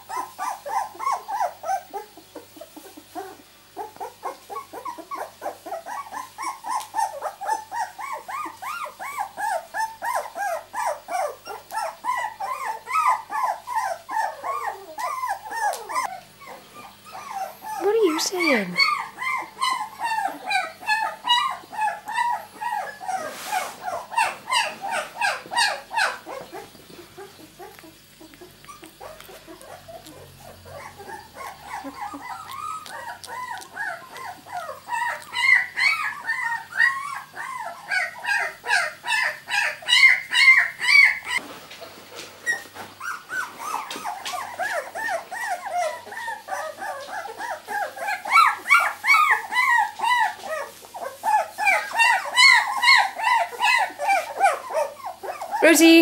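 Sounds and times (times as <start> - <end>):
puppies crying in high squeaks: 0.0 - 41.4, 42.4 - 56.0.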